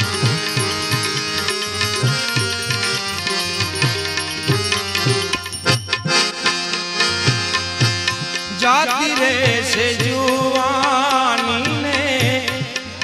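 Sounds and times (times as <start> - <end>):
sustained melody instruments: 0.0 - 13.0
tabla playing a rhythm: 0.0 - 13.0.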